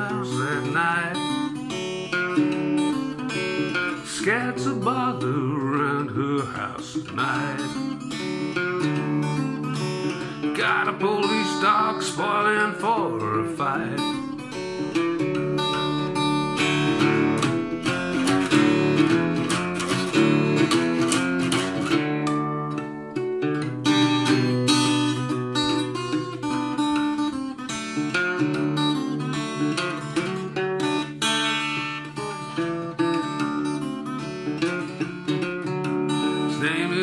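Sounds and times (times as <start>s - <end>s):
fingerpicked blues acoustic guitar: 0.0s - 37.0s.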